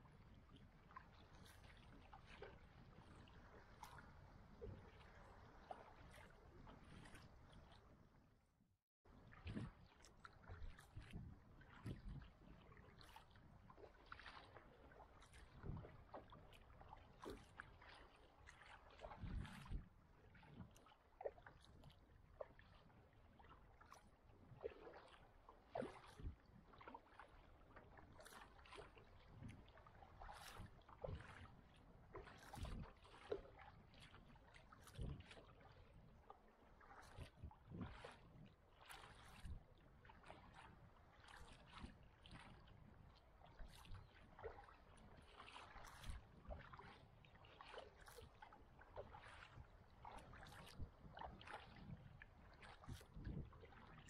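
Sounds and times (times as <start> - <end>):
kayak paddle splashing: 0.5 - 7.8, 9.1 - 54.0.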